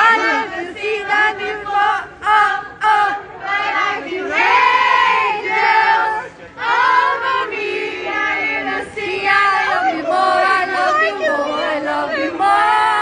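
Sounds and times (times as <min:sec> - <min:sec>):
fans singing loudly together: 0:00.0 - 0:13.0.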